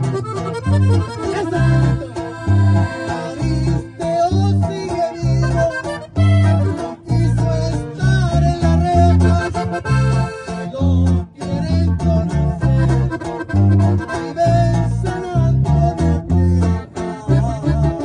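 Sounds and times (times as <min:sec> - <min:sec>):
button accordion melody: 0:00.0 - 0:18.0
plucked strings and bass: 0:00.0 - 0:18.0.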